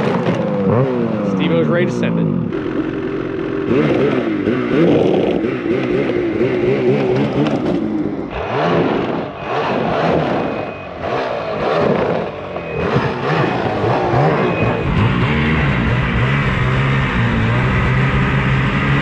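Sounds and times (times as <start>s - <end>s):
snowmobile engines revving: 0.0s - 19.0s.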